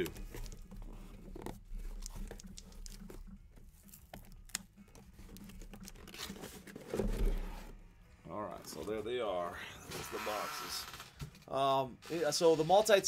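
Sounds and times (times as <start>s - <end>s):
cardboard rustling and scraping: 0.0s - 11.5s.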